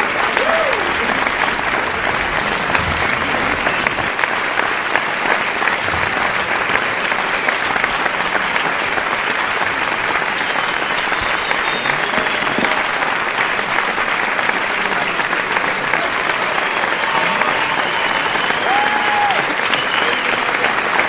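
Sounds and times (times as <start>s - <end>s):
large crowd applauding: 0.0s - 21.0s.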